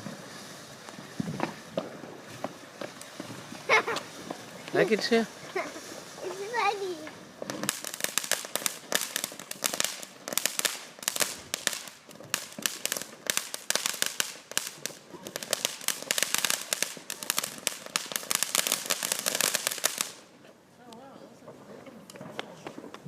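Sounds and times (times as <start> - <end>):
firework crackling: 0.0 - 23.0.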